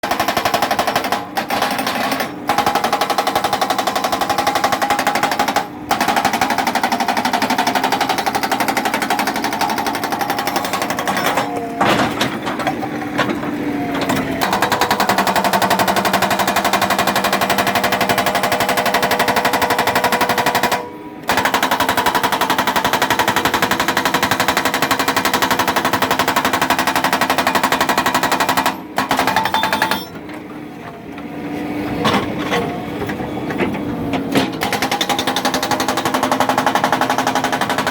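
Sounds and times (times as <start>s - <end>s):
hydraulic breaker hammer pounding rock: 0.0s - 30.4s, 32.0s - 37.9s.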